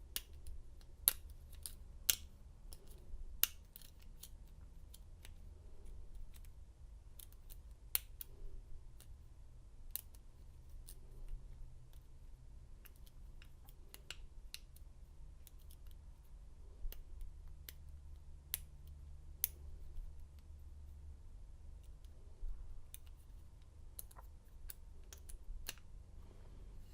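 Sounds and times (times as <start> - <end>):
faint low hum: 0.0 - 26.9.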